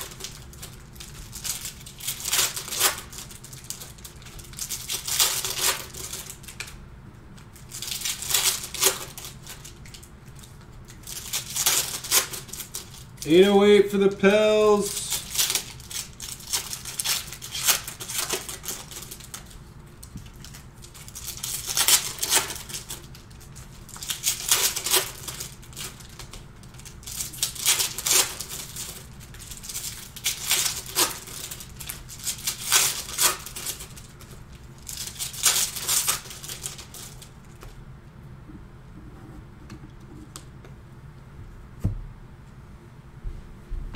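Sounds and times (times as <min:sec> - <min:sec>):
wrappers crinkling: 0:00.0 - 0:06.8, 0:07.4 - 0:37.8.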